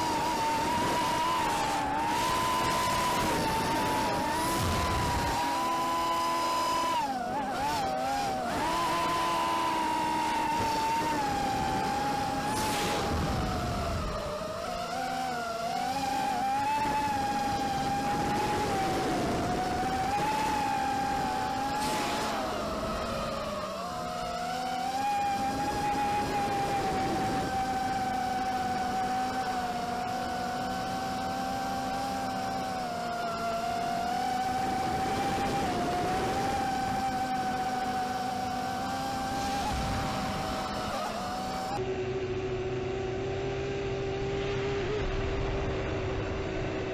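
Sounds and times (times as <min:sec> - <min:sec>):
drone motors whining: 0:00.0 - 0:46.9.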